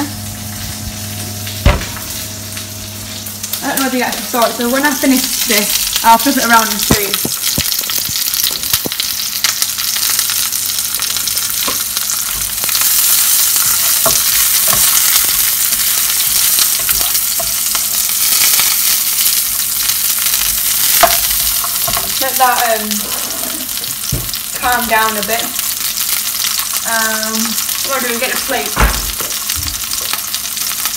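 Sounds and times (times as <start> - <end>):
mushrooms sizzling in a frying pan: 0.0 - 30.9.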